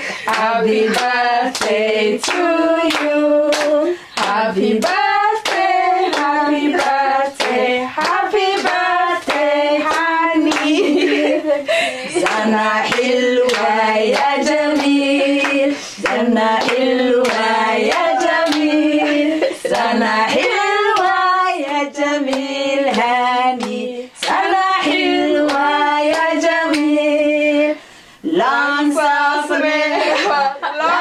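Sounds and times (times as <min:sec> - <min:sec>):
hands clapping a beat: 0:00.0 - 0:11.2, 0:12.2 - 0:27.0
women singing together: 0:00.0 - 0:31.0.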